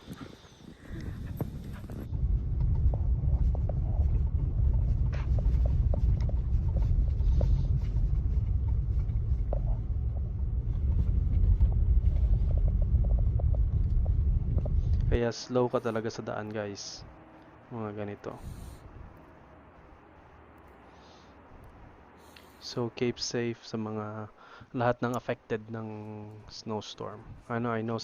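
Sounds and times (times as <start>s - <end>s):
car driving rumble: 0.0s - 24.6s.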